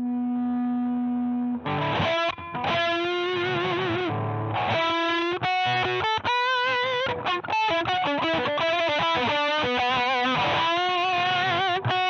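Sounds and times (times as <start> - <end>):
distorted electric guitar: 0.0 - 12.0.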